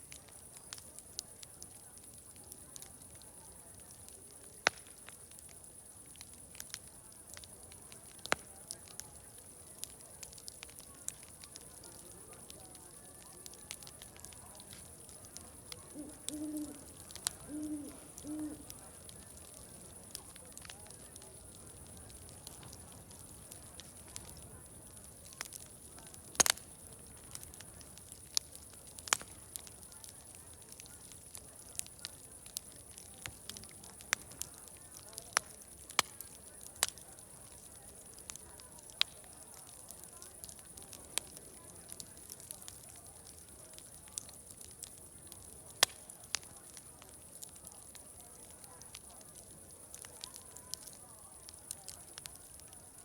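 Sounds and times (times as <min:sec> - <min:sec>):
faint steady hiss: 0:00.0 - 0:53.0
wood fire crackling: 0:00.0 - 0:53.0.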